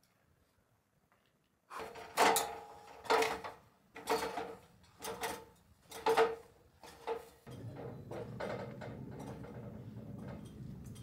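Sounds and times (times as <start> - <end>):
footsteps on metal ladder rungs: 1.8 - 11.0.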